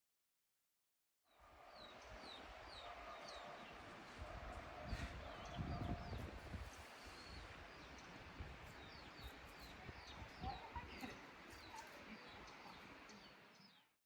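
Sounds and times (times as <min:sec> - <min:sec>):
faint birds chirping: 0:01.3 - 0:14.0.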